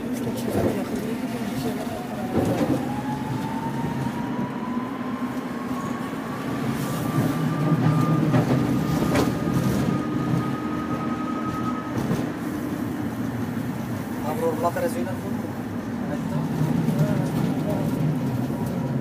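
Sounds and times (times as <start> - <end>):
tram motors whining: 0.0 - 19.0
wheels rumbling on rails: 0.0 - 19.0.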